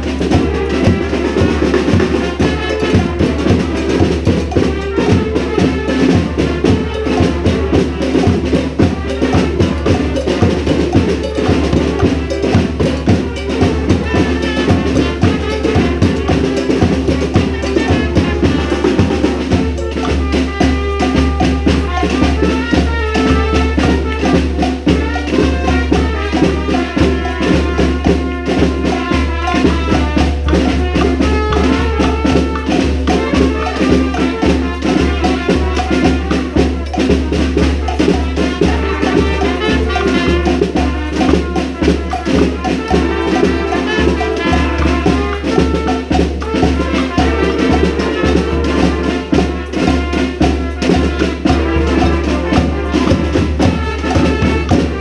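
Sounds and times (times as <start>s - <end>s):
brass band playing salsa: 0.0s - 55.0s
horn melody: 0.0s - 55.0s.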